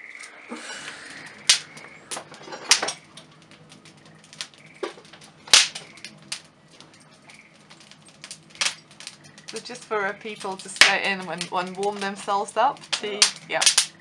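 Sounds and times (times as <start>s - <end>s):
sharp irregular clicks and knocks: 1.5s - 14.0s.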